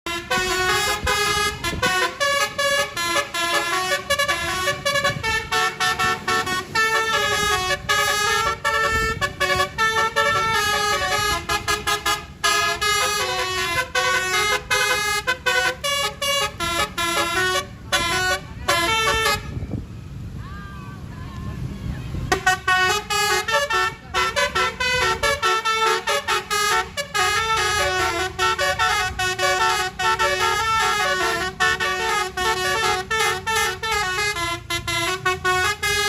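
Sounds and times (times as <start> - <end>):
musical vehicle horn tune: 0.0 - 19.8, 22.2 - 36.0.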